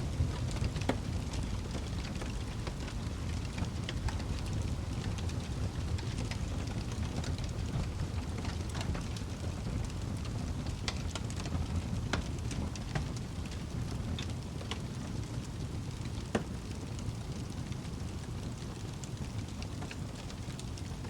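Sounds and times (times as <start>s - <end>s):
fire crackling and popping: 0.1s - 21.0s.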